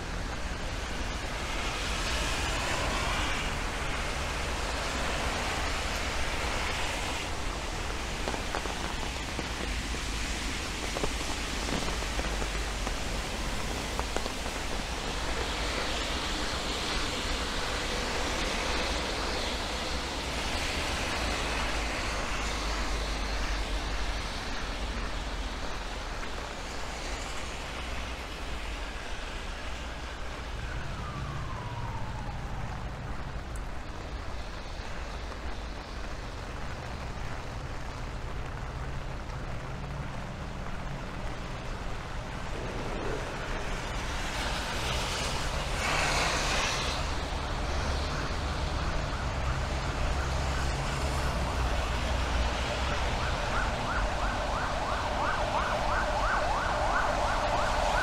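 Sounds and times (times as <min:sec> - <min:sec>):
steady rain on street: 0:00.0 - 0:58.0
wet tyre hiss of passing vehicle: 0:00.0 - 0:58.0.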